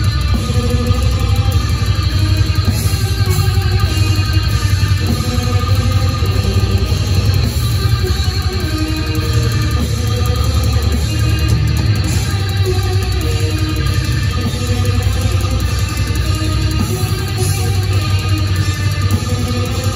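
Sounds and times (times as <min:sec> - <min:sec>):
death metal band playing live: 0:00.0 - 0:19.9.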